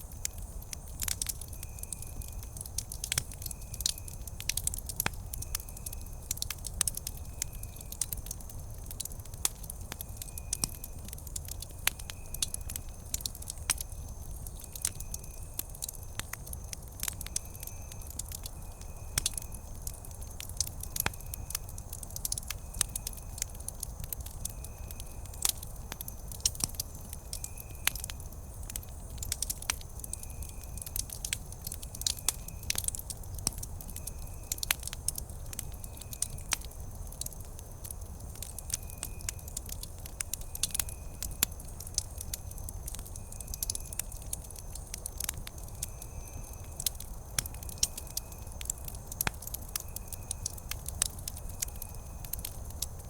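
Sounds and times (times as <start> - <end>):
campfire crackling and popping: 0.0 - 53.0
low rumble of burning: 0.0 - 53.0.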